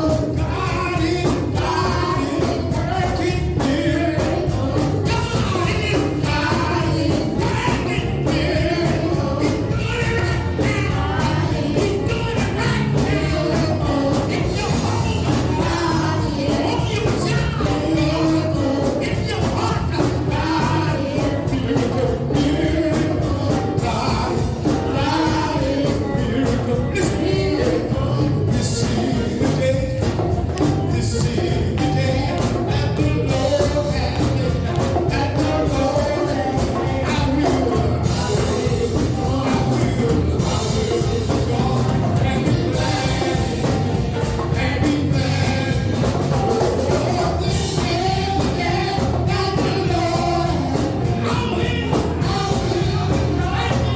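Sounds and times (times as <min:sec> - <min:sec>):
live band playing gospel music: 0:00.0 - 0:53.9
people singing: 0:00.0 - 0:53.9.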